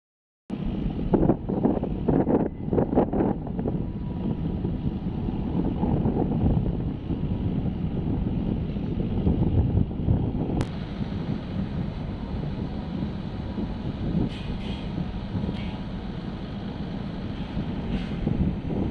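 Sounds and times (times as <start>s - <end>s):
low steady rumble: 0.5s - 18.9s
wind buffeting microphone: 0.5s - 18.9s.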